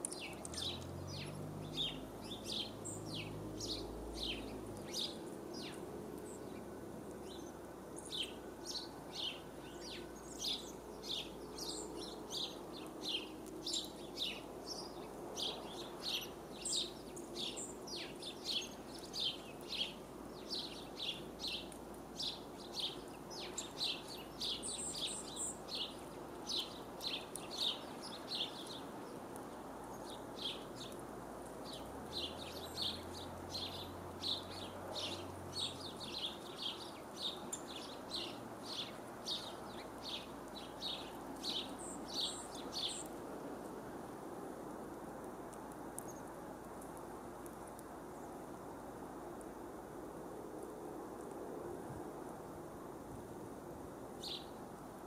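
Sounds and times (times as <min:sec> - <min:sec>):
songbird chirping: 0:00.0 - 0:44.0, 0:54.2 - 0:54.6.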